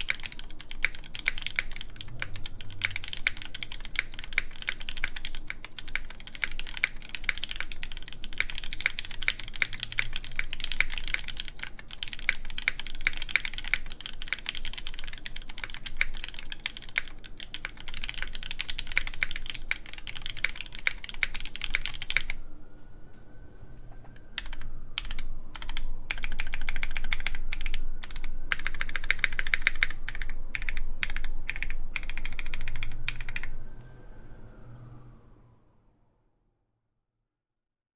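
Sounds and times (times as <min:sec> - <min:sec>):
mechanical keyboard typing clacks: 0:00.0 - 0:22.4, 0:24.3 - 0:33.6.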